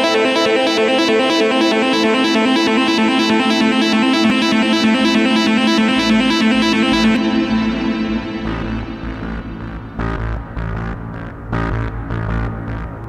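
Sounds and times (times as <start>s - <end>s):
synthesizer and keyboard music: 0.0s - 13.0s.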